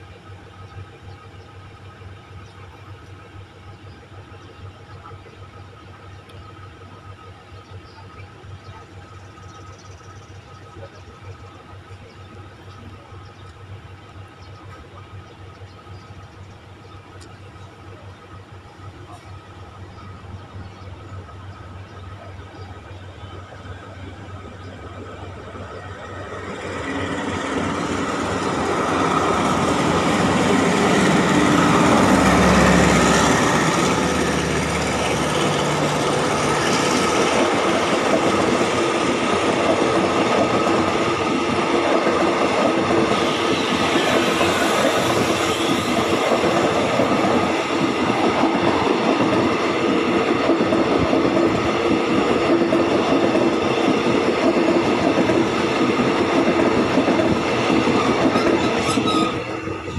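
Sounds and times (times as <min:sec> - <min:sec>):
locomotive engine rumble: 0:00.0 - 0:59.9
wheels clattering on rails: 0:02.3 - 0:59.9.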